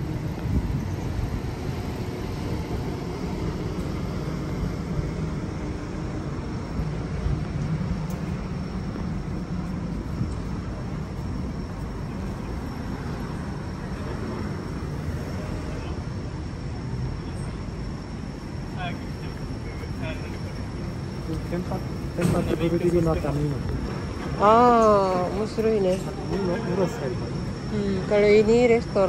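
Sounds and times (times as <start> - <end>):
low city rumble: 0.0 - 29.0
vehicle drone: 0.0 - 29.0.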